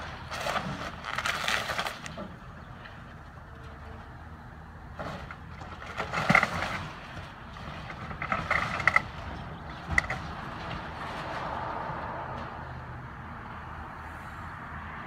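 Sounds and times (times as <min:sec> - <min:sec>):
excavator engine running: 0:00.0 - 0:13.6.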